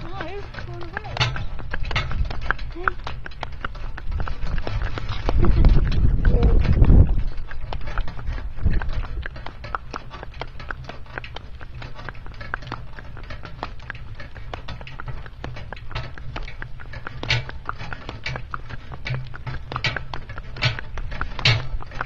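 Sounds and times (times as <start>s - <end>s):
cart rumbling and rattling: 0.0s - 22.0s
hooves clip-clopping on road: 0.0s - 22.0s.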